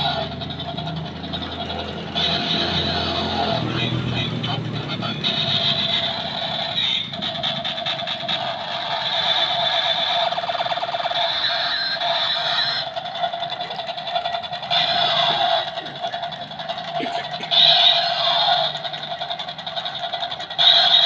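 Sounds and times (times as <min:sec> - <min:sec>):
toy helicopter buzzing and chopping: 0:00.0 - 0:21.0.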